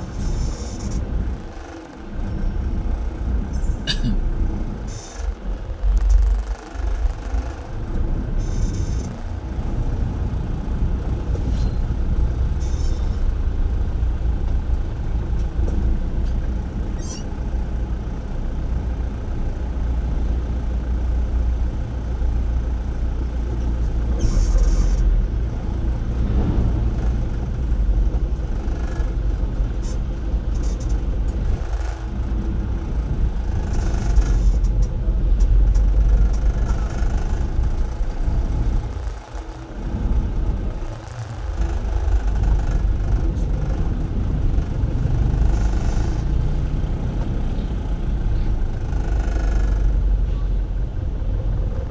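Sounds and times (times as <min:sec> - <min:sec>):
traffic rumble of engines and tyres: 0:00.0 - 0:51.9.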